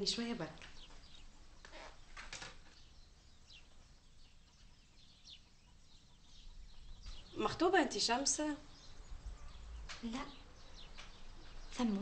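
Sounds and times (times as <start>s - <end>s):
faint bird chirps: 0.7s - 12.0s.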